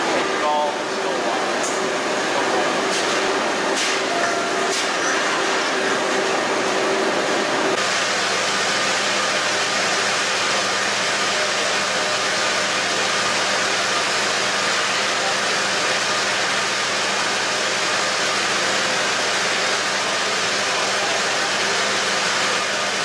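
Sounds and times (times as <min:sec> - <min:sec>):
processing machinery din: 0:00.0 - 0:23.0.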